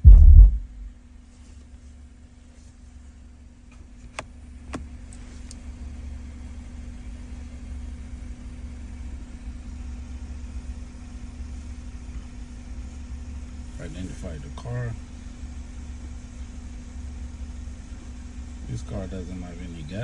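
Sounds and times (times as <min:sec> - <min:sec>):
vehicle engine idling: 0:00.0 - 0:00.9, 0:02.1 - 0:20.0
constant hum: 0:00.0 - 0:20.0.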